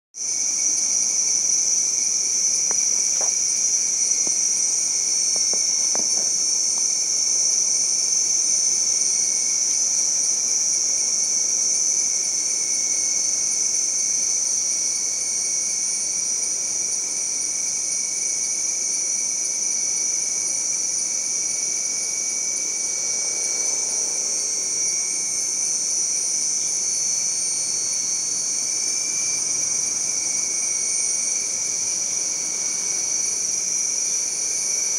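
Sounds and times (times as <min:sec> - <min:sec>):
insects droning: 0:00.2 - 0:34.9.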